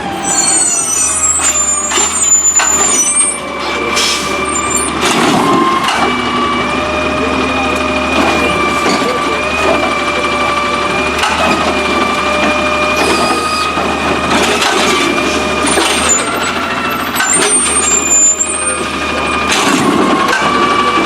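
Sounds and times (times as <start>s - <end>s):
garbage truck engine running: 0.0s - 21.0s.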